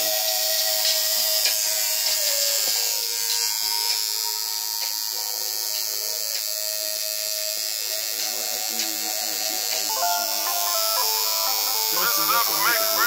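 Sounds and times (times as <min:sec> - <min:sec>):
tattoo machine buzzing: 0:00.0 - 0:13.0.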